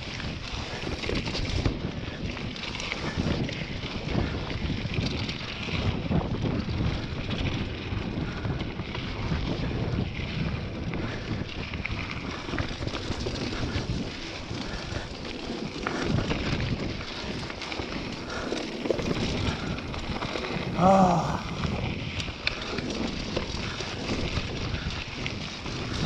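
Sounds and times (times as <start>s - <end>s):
tyres rolling on loose dirt: 0.0s - 26.0s
wind buffeting microphone: 0.0s - 26.0s.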